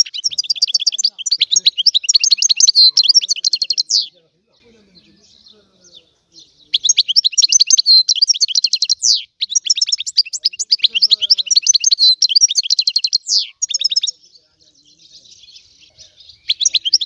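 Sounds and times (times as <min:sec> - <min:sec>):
goldfinch singing: 0:00.0 - 0:17.0.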